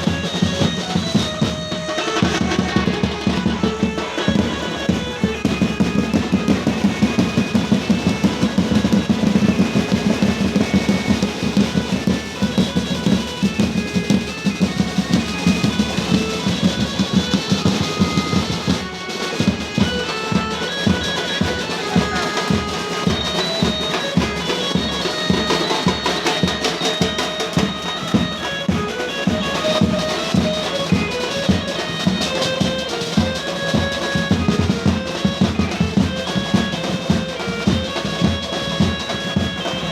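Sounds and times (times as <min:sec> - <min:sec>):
fast drumming: 0:00.0 - 0:39.9.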